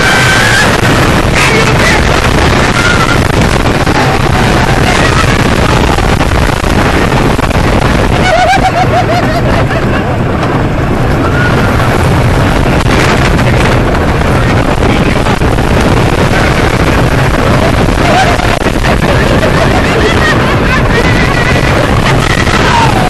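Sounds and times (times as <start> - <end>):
roller coaster cars rumbling: 0.0 - 23.0
wind buffeting microphone: 0.0 - 23.0.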